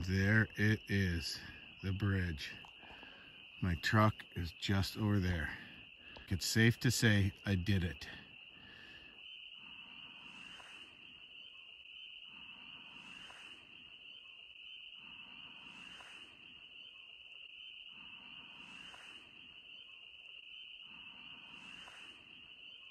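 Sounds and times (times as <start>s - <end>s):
frogs calling: 0.0s - 22.9s.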